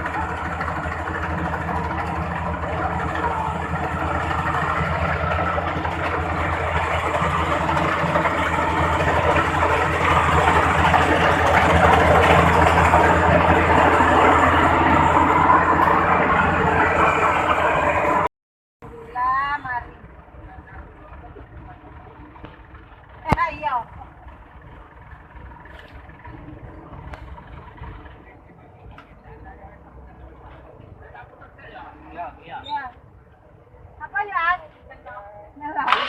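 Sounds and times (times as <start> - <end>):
combine harvester engine hum: 0.0 - 34.0.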